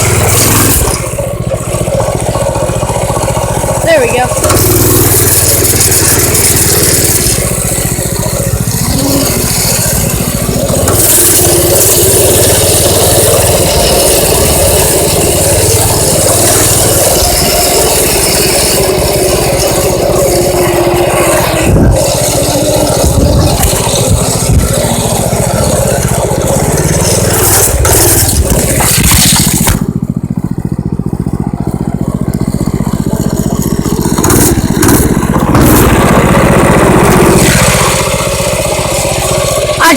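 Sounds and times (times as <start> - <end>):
rattling and scraping: 0.0 - 39.9
small motorbike engine running: 0.0 - 39.9.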